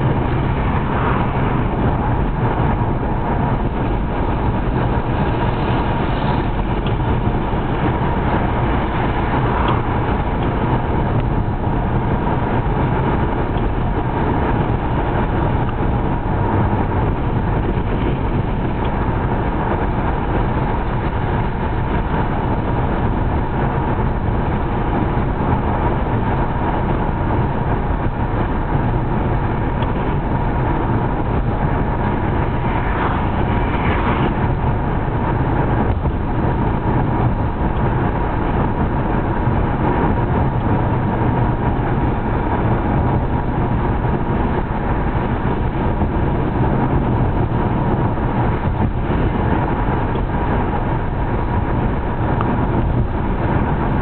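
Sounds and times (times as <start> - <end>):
car cabin road noise: 0.0 - 54.0.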